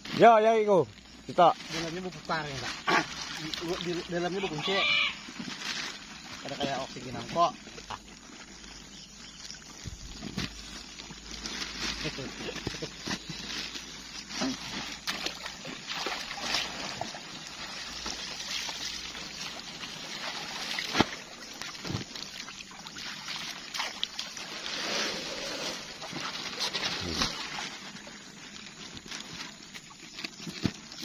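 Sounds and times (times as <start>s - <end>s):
water sloshing and splashing: 1.0s - 31.0s.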